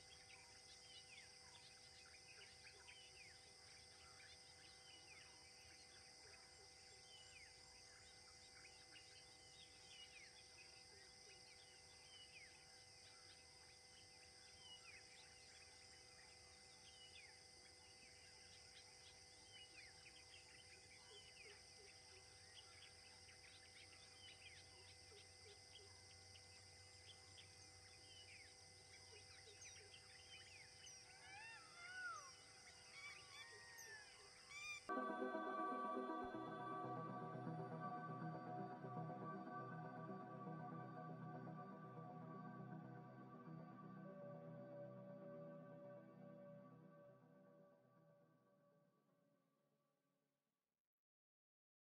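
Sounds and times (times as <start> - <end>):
insect drone: 0.0 - 47.3.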